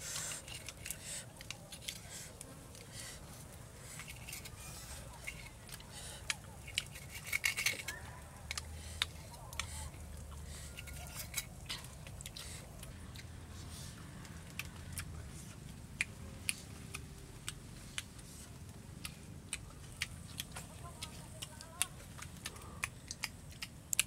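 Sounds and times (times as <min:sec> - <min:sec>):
chopsticks against food: 0:00.0 - 0:24.0
wet chewing sounds: 0:00.0 - 0:24.0.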